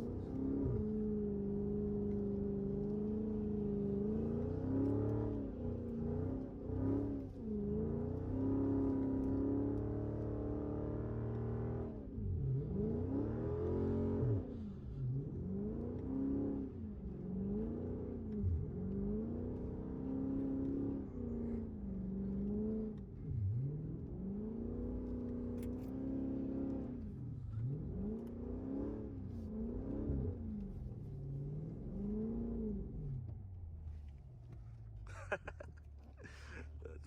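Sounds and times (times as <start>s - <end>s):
car engine revving: 0.0s - 35.6s.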